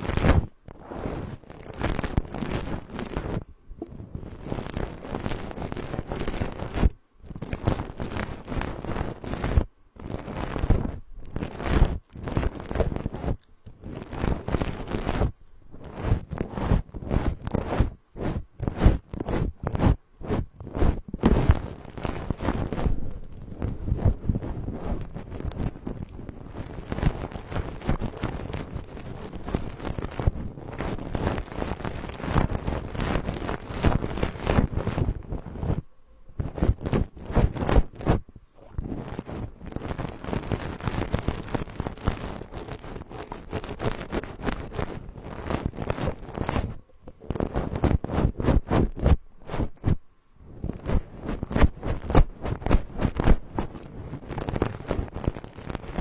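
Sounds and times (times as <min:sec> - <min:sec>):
rustling and scratching on microphone: 0:00.0 - 0:56.0.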